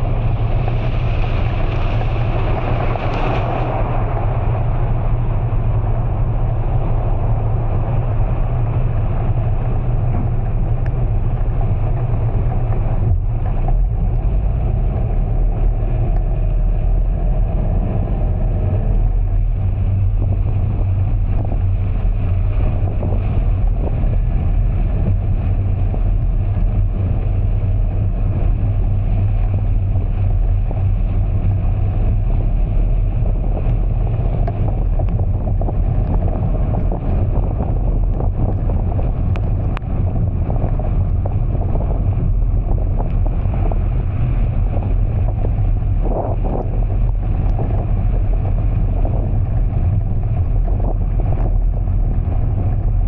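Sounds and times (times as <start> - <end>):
vehicle driving through heavy rain: 0.0 - 53.0.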